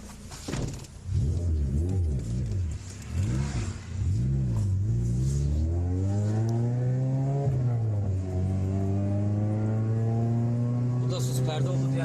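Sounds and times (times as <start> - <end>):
car engine revving: 1.0 - 12.0.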